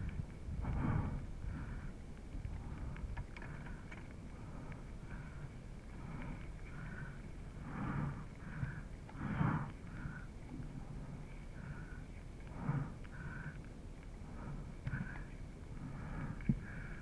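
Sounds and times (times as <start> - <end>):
low riding rumble: 0.0 - 17.0
person breathing hard: 0.0 - 17.0.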